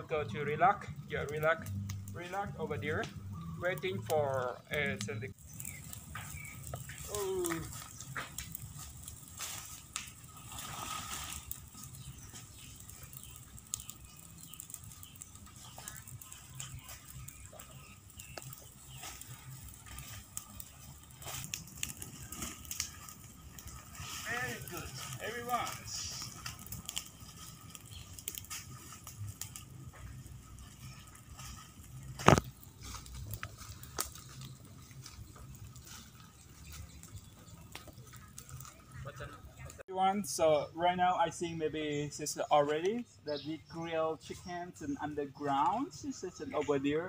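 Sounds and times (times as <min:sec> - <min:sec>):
fire crackling and popping: 0:00.0 - 0:47.0
fire hissing: 0:00.0 - 0:47.0.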